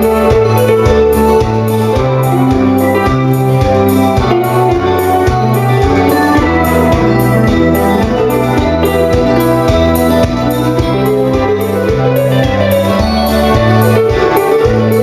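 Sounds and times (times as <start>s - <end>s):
live rock band playing: 0.0s - 15.0s
steady drum beat: 0.0s - 15.0s.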